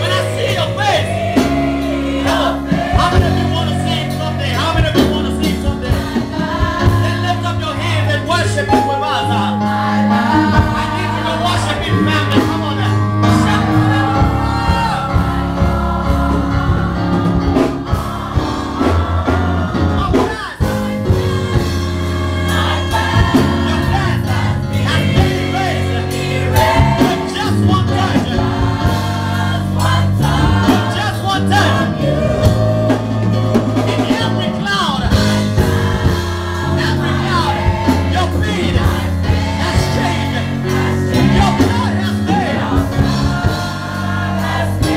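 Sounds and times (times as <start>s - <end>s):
gospel choir singing: 0.0s - 44.9s
low bass notes: 0.0s - 44.9s.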